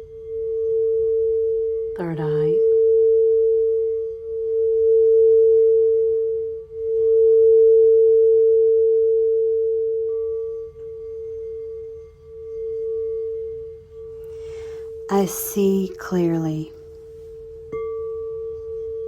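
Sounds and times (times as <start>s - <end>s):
crystal singing bowl tone: 0.0s - 19.0s.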